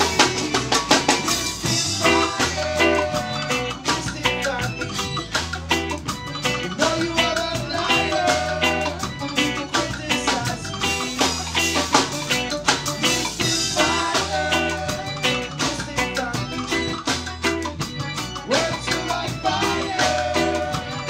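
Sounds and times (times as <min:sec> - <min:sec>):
bass line: 0:00.0 - 0:21.0
live band playing: 0:00.0 - 0:21.0
steady drum beat: 0:00.0 - 0:21.0.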